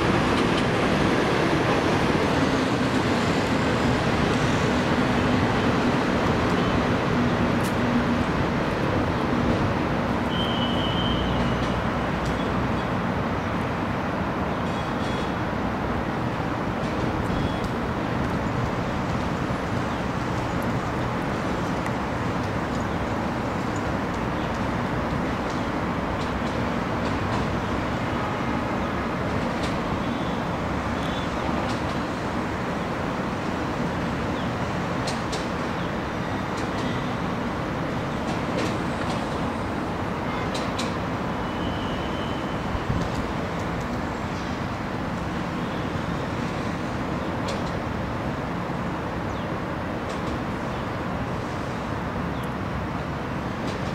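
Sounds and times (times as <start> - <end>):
train coaches rumbling on track: 0.0 - 53.9.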